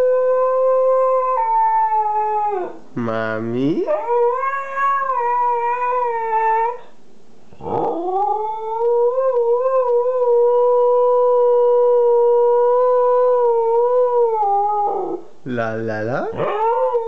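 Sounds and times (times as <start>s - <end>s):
dog howling: 0.0s - 2.8s, 3.8s - 6.9s, 7.6s - 15.2s, 16.3s - 17.0s.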